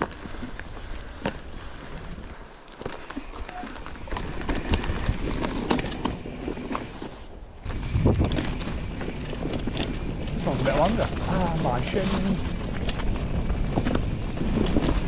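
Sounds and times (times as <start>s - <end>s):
bike clacking and rattling: 2.8s - 15.0s
tyres rumbling on dirt: 2.8s - 15.0s.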